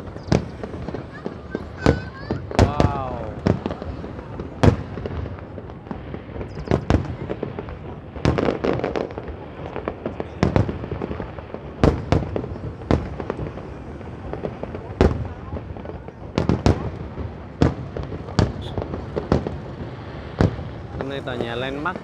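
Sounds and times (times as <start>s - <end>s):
fireworks bangs: 0.0s - 22.0s
fireworks rumble and crackle: 0.0s - 22.0s.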